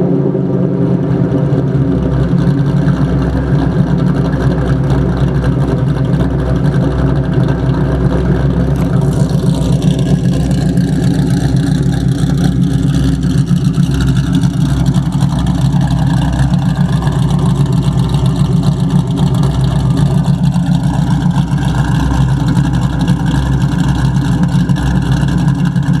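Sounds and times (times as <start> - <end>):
car engine running: 0.0 - 26.0
engine tapping noise: 0.0 - 26.0.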